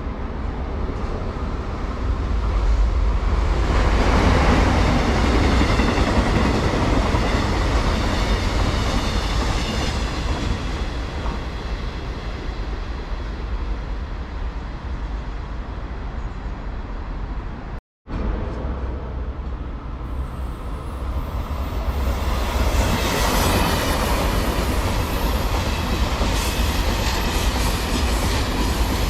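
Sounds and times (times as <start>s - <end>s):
train running on rails: 0.0s - 29.0s.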